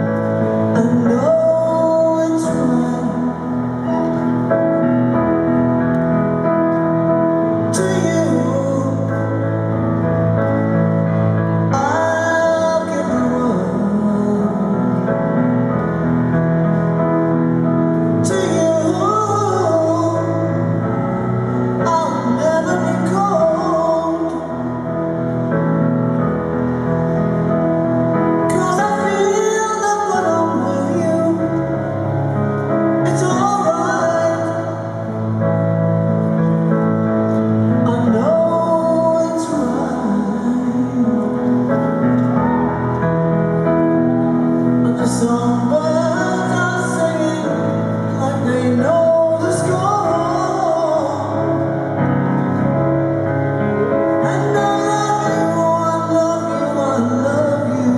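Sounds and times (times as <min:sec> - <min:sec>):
grand piano accompaniment: 0:00.0 - 0:57.9.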